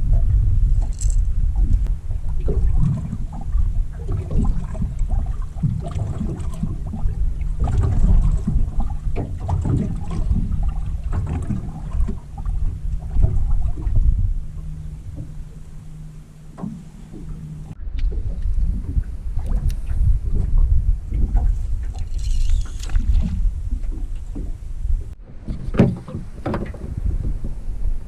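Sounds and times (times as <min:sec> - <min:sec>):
steady low hum: 0:00.0 - 0:25.4
heavy low rumble: 0:00.0 - 0:28.0
water slapping boat hull: 0:00.0 - 0:28.0.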